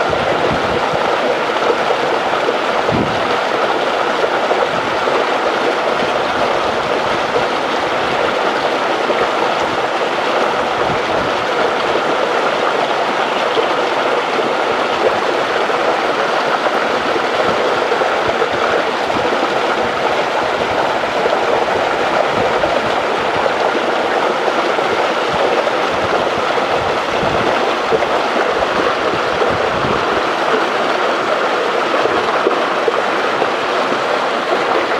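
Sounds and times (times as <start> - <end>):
water rushing over a dam: 0.0 - 34.9.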